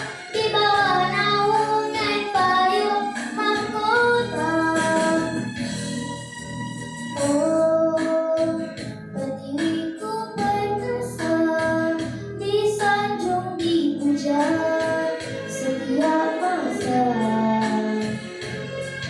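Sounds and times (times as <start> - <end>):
girl singing into a microphone: 0.0 - 5.5, 7.2 - 18.2
instrumental backing track: 0.0 - 19.0.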